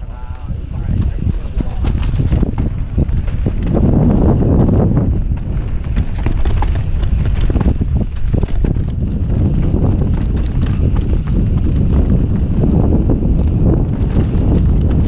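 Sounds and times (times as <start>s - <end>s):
bicycle tyres rumbling on dirt: 0.0s - 15.0s
bike knocks and rattles: 0.0s - 15.0s
wind buffeting microphone: 0.0s - 15.0s.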